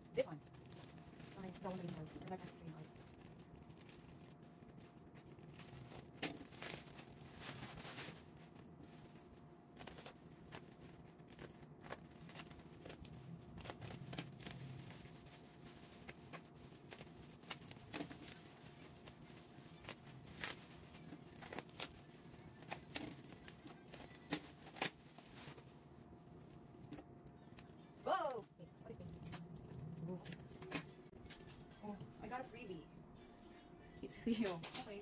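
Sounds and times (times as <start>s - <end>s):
bubble wrap crackling: 0.0s - 32.4s.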